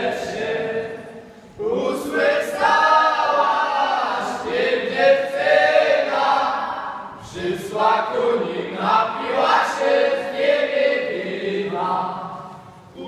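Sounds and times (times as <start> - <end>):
group singing folk song: 0.0 - 13.0.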